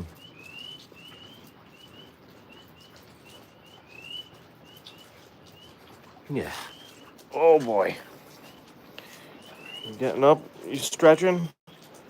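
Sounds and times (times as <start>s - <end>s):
tree frogs peeping: 0.0s - 12.0s.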